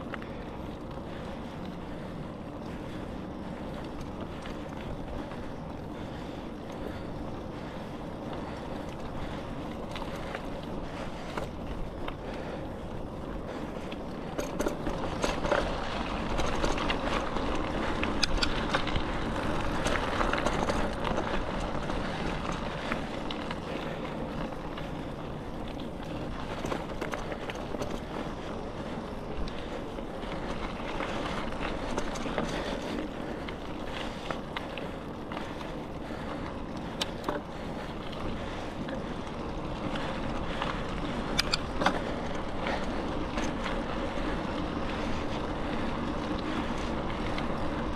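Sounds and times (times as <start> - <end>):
bicycle tyres rolling on dirt: 0.0 - 47.9
bike clicks and rattles: 0.0 - 47.9.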